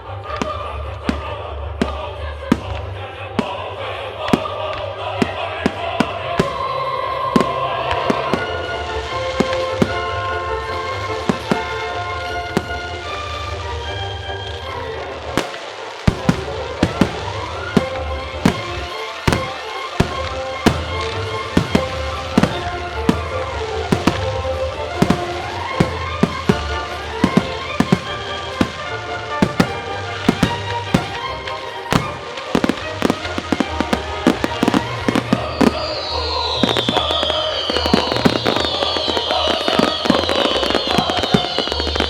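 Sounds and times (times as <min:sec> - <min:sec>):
loud music: 0:00.0 - 0:14.3, 0:15.4 - 0:42.0
firework shells bursting: 0:00.4 - 0:10.4, 0:11.3 - 0:13.6, 0:15.4 - 0:42.0.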